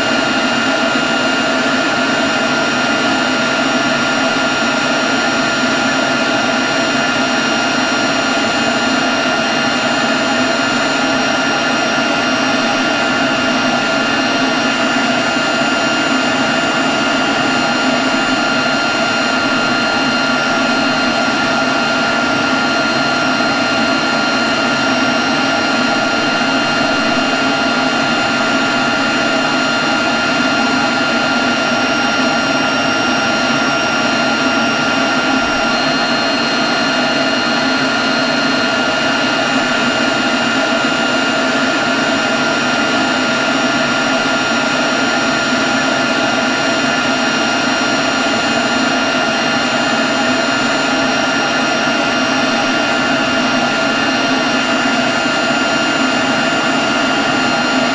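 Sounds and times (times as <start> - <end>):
leaf blower running: 0.0 - 57.9.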